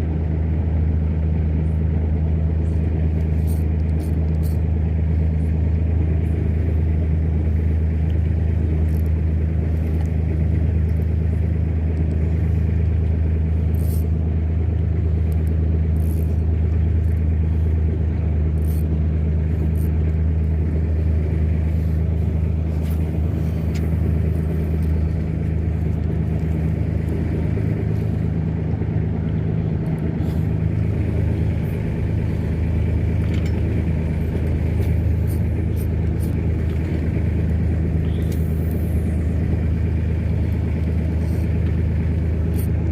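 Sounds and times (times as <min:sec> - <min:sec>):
engine droning steadily: 0:00.0 - 0:42.9
wind and water noise: 0:00.0 - 0:42.9.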